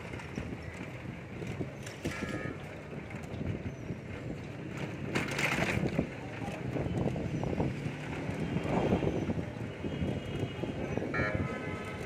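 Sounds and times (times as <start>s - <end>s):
rickshaw clattering and rattling: 0.0s - 12.0s
street traffic rumble: 0.0s - 12.0s
wind on microphone: 0.0s - 12.0s.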